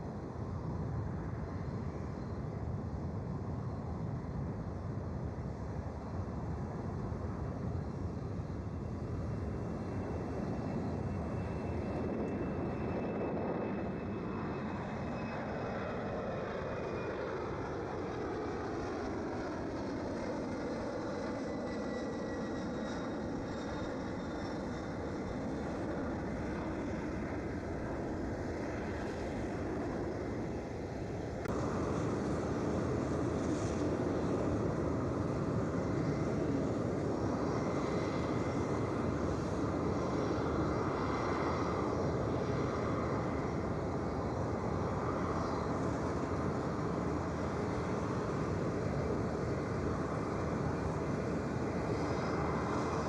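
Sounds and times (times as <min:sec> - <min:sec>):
jet plane passing: 0:00.0 - 0:53.0.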